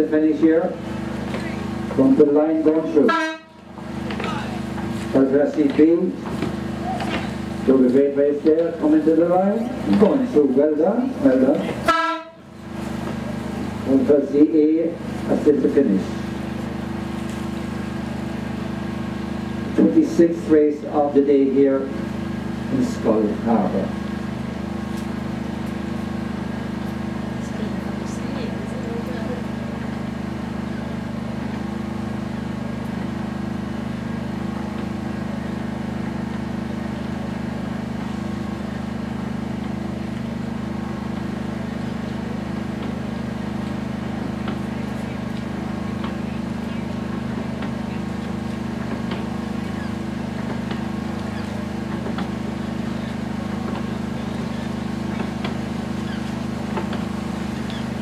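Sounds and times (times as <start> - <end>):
motor droning: 0.0 - 58.0.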